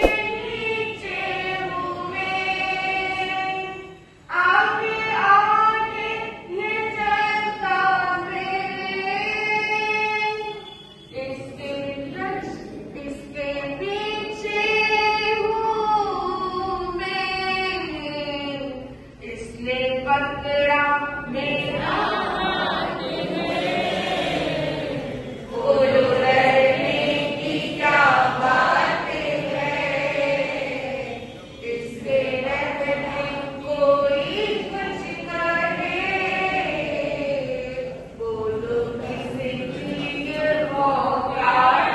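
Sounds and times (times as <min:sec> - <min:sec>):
voices singing devotional song: 0:00.0 - 0:20.1, 0:20.7 - 0:41.9.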